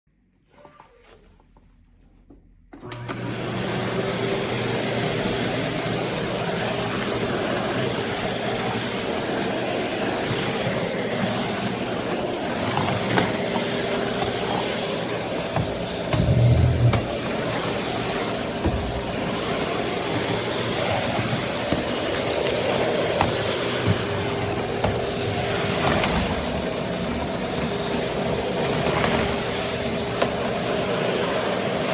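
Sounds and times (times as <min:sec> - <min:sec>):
vacuum cleaner running: 0:02.7 - 0:31.9.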